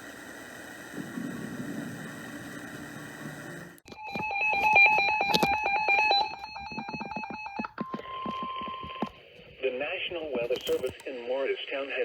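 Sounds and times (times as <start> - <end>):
radio hiss and hum: 0.0 - 12.0.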